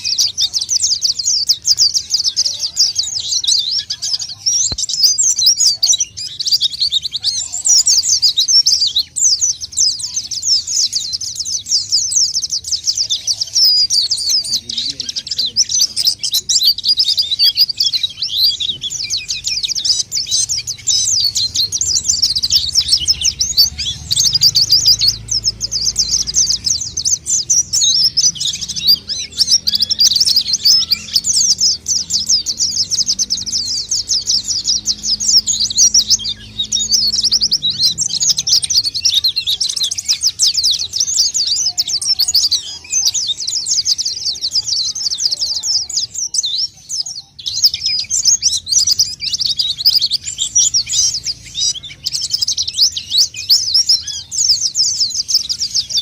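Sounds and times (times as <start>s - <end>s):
high twittering bird song: 0.0s - 56.0s.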